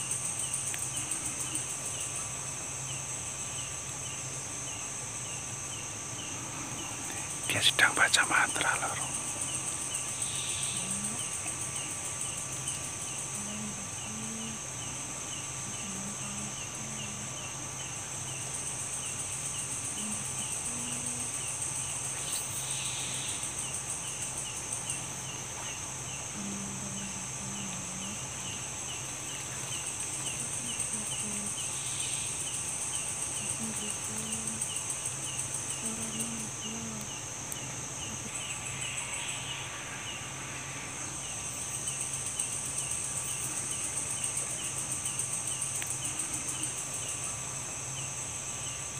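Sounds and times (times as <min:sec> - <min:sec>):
cricket chirping rhythmically: 0:00.0 - 0:48.9
insects trilling: 0:00.0 - 0:48.9.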